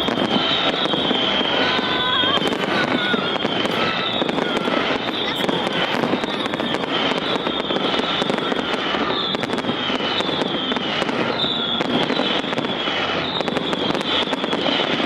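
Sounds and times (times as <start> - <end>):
fireworks crackling and popping: 0.0 - 15.0
fireworks whistles: 0.0 - 15.0.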